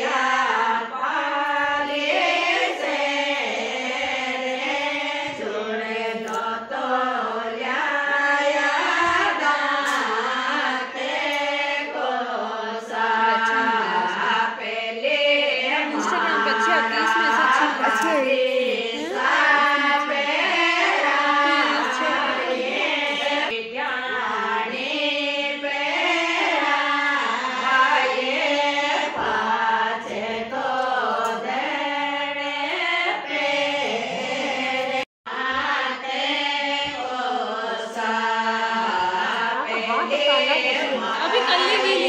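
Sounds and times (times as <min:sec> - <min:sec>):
song with singing voices: 0:00.0 - 0:42.0.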